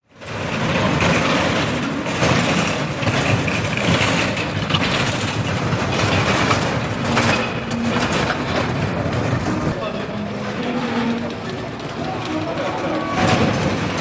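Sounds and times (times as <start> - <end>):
night market crowd din: 0.0 - 14.0.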